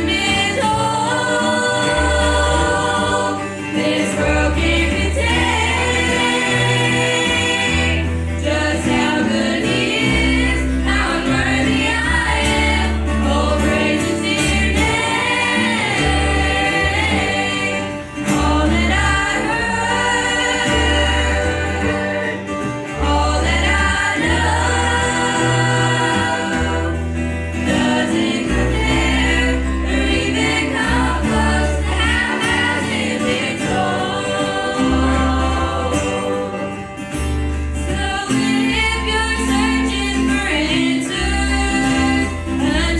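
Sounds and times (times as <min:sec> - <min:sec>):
bass line: 0:00.0 - 0:42.9
gospel group singing in harmony: 0:00.0 - 0:42.9
instrumental accompaniment: 0:00.0 - 0:42.9.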